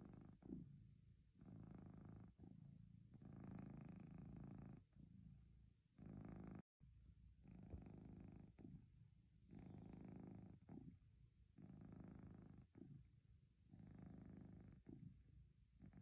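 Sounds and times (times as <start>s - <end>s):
cat purring: 0.0s - 6.6s, 7.4s - 16.0s.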